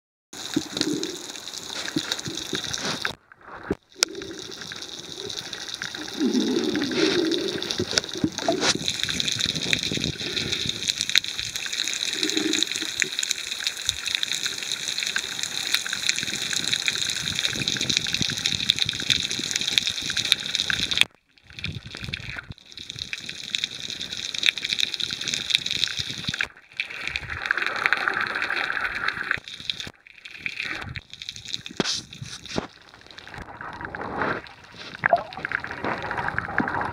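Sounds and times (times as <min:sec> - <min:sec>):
underwater rushing water and bubbles: 0:00.4 - 0:36.9.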